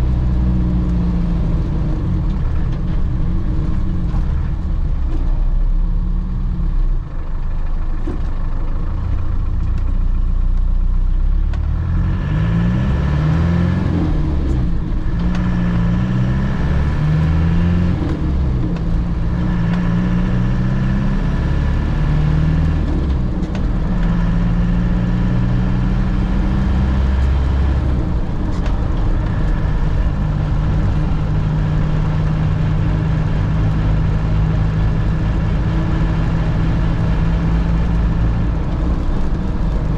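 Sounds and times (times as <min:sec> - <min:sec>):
car engine through gear changes: 0:00.0 - 0:39.9
road noise: 0:00.0 - 0:39.9.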